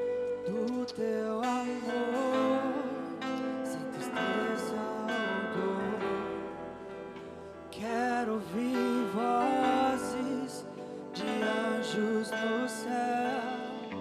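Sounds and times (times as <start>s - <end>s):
guitar accompaniment: 0.0s - 14.0s.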